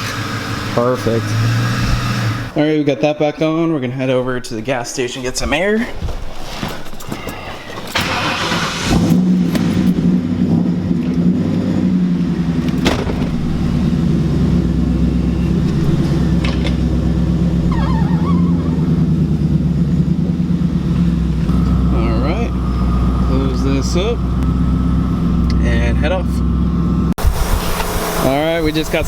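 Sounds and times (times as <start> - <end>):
car engine running: 0.0 - 2.6, 8.0 - 29.0.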